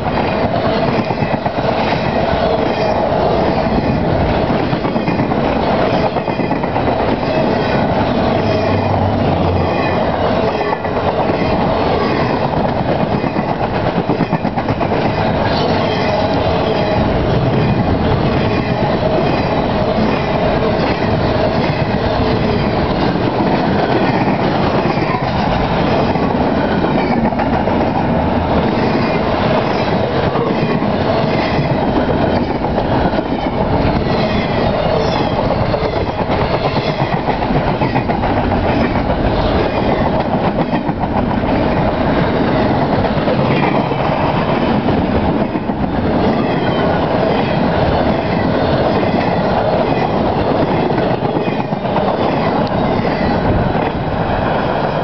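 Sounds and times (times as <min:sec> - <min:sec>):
freight train wheels rattling on rail: 0:00.0 - 0:55.0.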